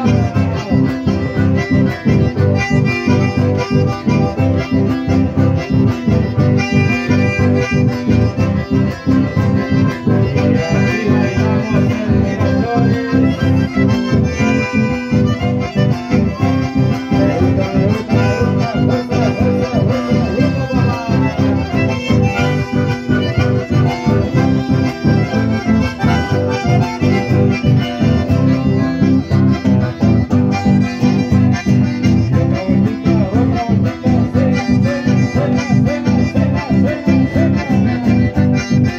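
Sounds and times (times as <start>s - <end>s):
accordions playing: 0.0s - 38.9s
acoustic guitar: 0.0s - 38.9s.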